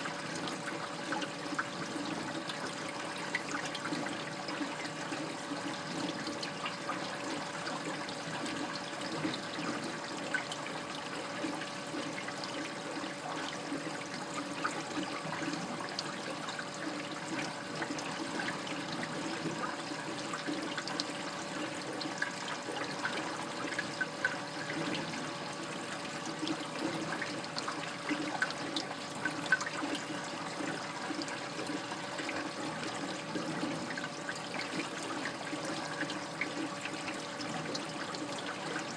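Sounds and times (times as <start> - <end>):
faint steady hum: 0.0 - 38.9
water running and trickling: 0.0 - 38.9.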